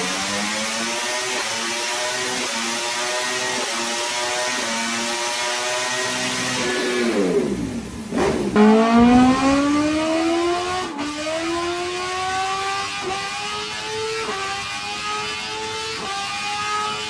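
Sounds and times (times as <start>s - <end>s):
motorbike engine at high revs: 0.0s - 17.0s.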